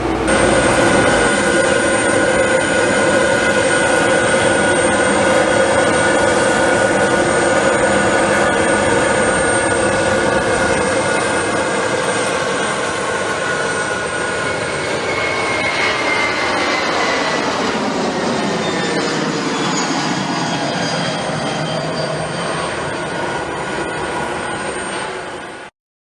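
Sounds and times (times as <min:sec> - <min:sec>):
jet engines roaring with whine: 0:00.0 - 0:25.7.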